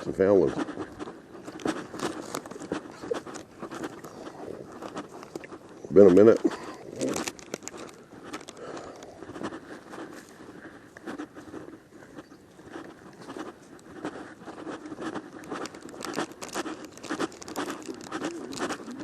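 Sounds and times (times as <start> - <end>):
rustling and crinkling of handling: 0.0 - 19.0.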